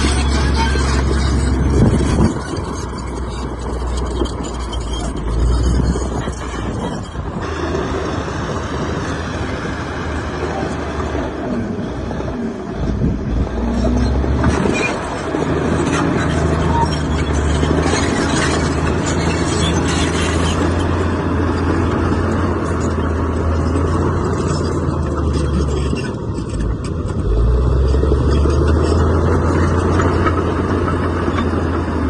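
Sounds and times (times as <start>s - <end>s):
diesel machinery engine drone: 0.0s - 32.0s.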